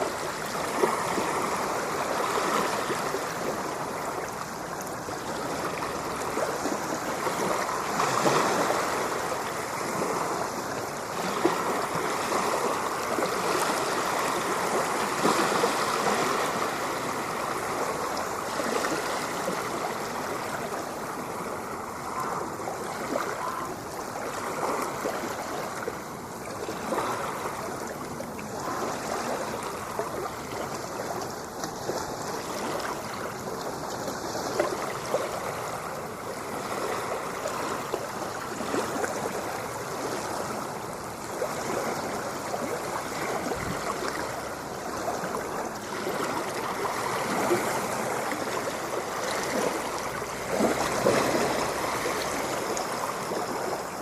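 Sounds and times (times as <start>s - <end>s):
ocean water lapping: 0.0s - 54.0s.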